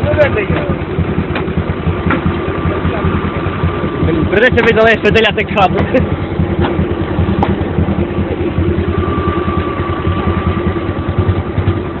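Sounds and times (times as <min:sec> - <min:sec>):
tractor engine idling: 0:00.0 - 0:12.0
thin steady whine: 0:00.1 - 0:12.0.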